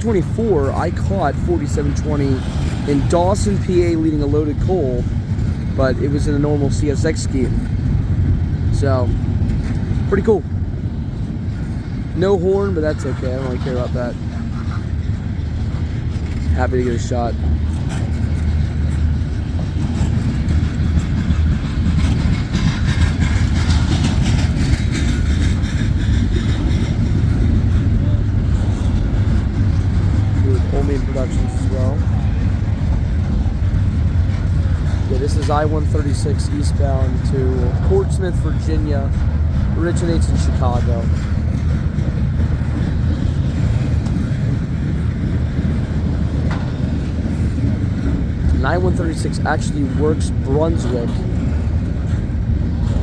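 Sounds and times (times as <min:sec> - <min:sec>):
freight train cars rolling: 0:00.0 - 0:53.0.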